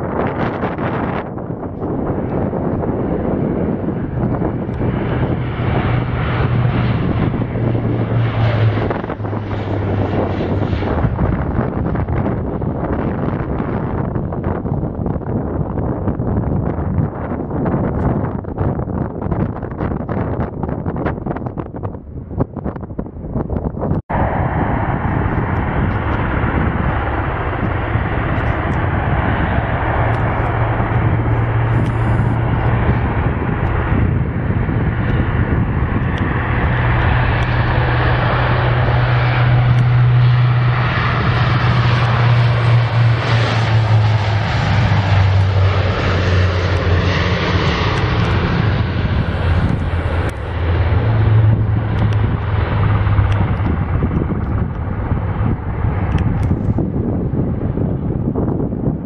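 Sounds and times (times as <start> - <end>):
turboprop engine drone: 0.0 - 59.0.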